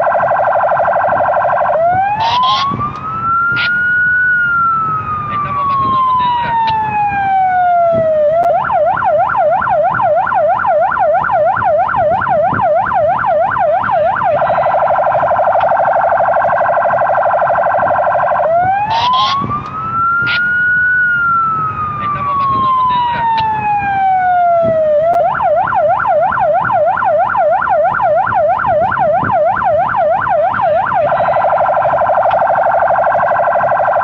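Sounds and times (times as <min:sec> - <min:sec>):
police siren cycling tones: 0:00.0 - 0:34.0.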